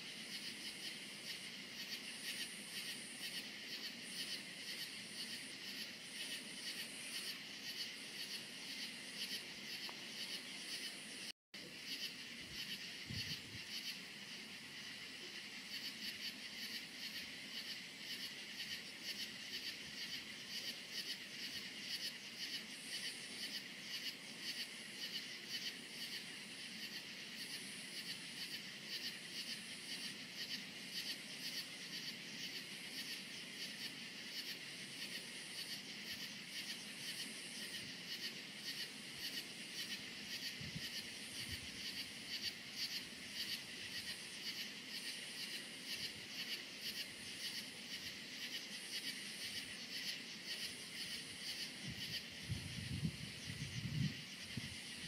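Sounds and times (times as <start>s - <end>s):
crickets chirping: 0.0s - 55.0s
high-pitched insect trill: 0.0s - 55.0s.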